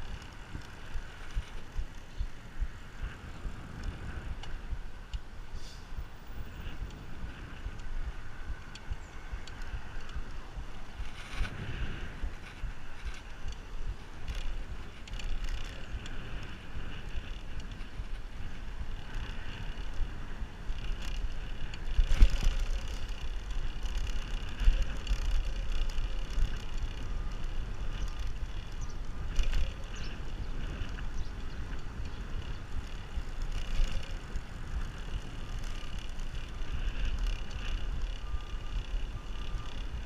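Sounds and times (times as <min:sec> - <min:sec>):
bicycle tyre road noise: 0:00.0 - 0:40.0
wind rumble on microphone: 0:00.0 - 0:40.0.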